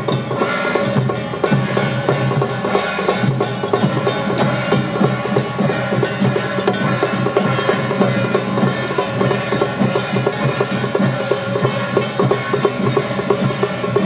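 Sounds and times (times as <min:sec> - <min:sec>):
festival percussion music: 0:00.0 - 0:14.0.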